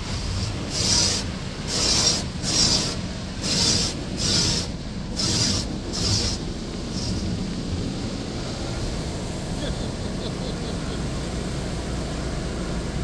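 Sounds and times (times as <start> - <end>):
car wash rumble: 0.0 - 13.0.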